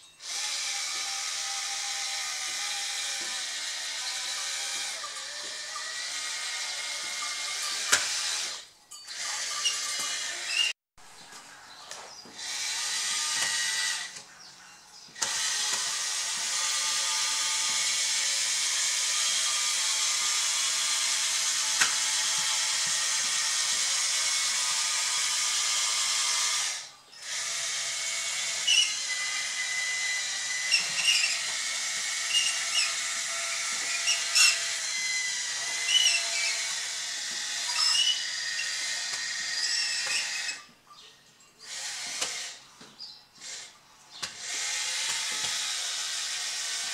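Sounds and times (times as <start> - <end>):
toy bulldozer motors running: 0.0 - 40.8, 41.6 - 46.9.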